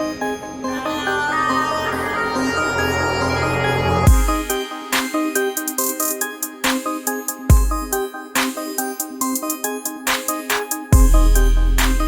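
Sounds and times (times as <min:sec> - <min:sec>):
electronic synth music: 0:00.0 - 0:12.0.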